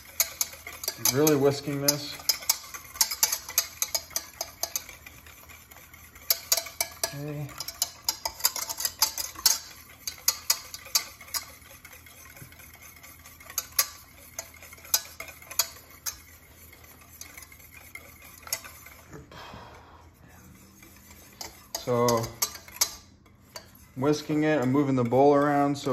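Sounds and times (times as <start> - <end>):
whisk clicking in metal saucepan: 0.0 - 19.1, 20.5 - 25.9.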